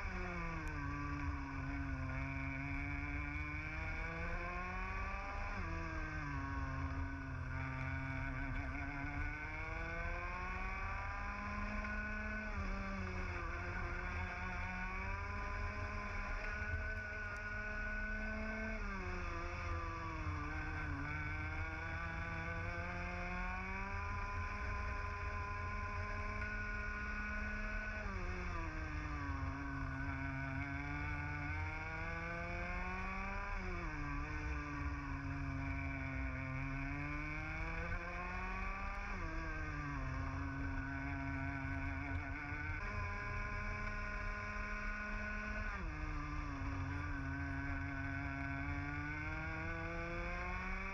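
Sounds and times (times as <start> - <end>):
kart engine revving: 0.0 - 50.9.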